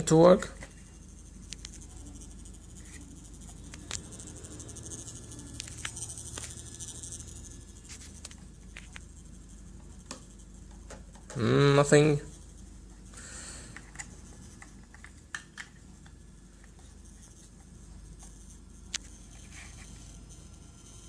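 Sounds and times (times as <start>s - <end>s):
faint low hum: 0.0s - 21.0s
servos clicking and buzzing: 0.0s - 21.0s.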